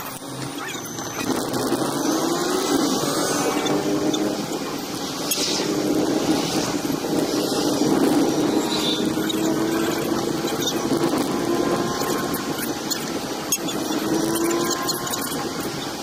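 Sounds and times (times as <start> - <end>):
car engine humming: 0.0 - 16.0
road noise: 0.0 - 16.0.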